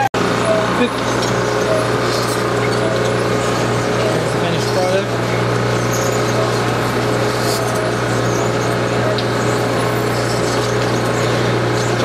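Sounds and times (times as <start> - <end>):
electric shredder hum: 0.0 - 12.0.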